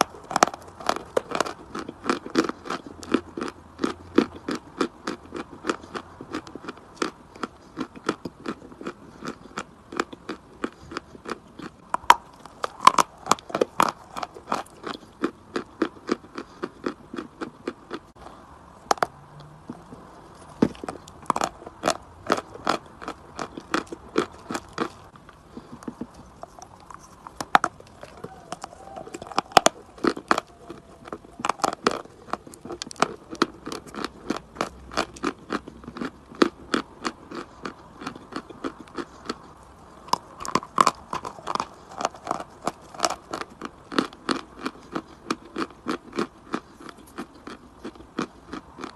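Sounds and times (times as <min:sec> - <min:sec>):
chalk being chewed: 0:00.0 - 0:48.9.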